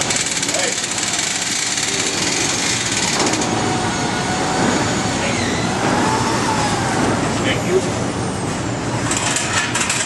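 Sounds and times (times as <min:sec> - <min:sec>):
machinery running: 0:00.0 - 0:10.0.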